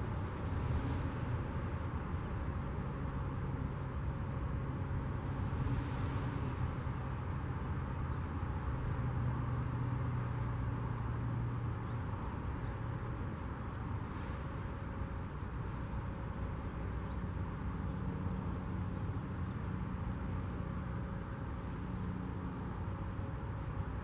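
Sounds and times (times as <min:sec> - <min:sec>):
cars passing: 0:00.0 - 0:24.0
truck rolling past: 0:00.0 - 0:24.0.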